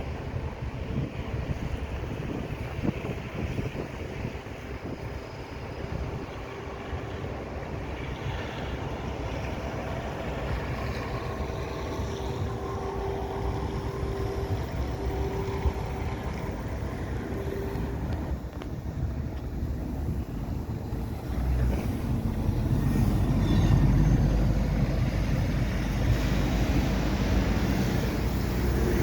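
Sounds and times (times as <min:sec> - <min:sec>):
passing vehicle whine: 0:00.0 - 0:29.0
street traffic rumble: 0:00.0 - 0:29.0
wind buffeting microphone: 0:00.0 - 0:29.0.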